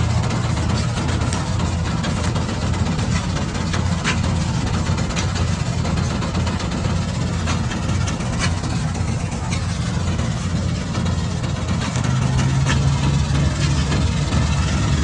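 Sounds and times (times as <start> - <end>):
combine harvester engine running: 0.0 - 15.0.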